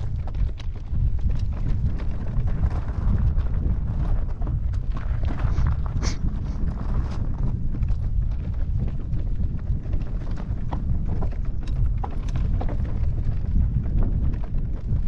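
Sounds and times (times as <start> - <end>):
bike tyres clattering over stones: 0.0 - 15.0
wind rumble on microphone: 0.0 - 15.0.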